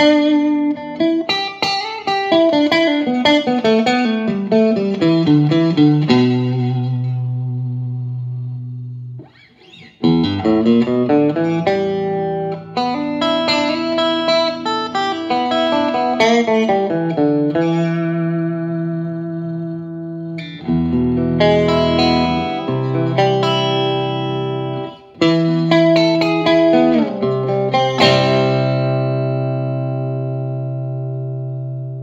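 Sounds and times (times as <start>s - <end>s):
electric guitar notes picked: 0.0s - 32.0s.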